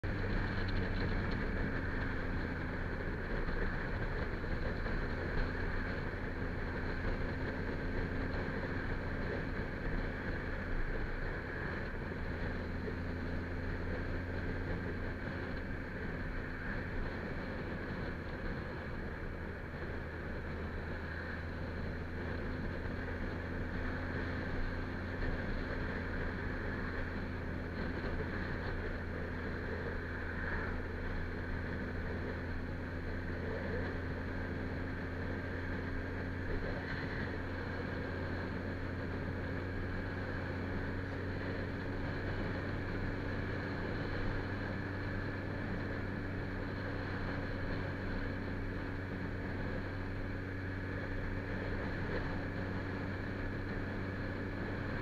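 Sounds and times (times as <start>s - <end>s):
motorcycle engine cruising: 0.0s - 55.0s
wind rushing over the microphone: 0.0s - 55.0s.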